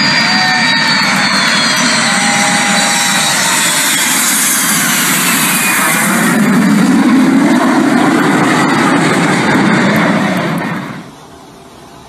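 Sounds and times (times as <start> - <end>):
high jet engine whine: 0.0 - 12.0
jet engines roaring overhead: 0.0 - 12.0.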